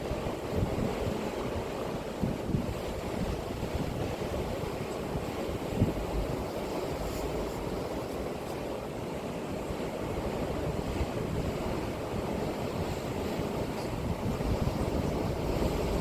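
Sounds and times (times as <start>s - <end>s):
sea waves washing ashore: 0.0s - 16.0s.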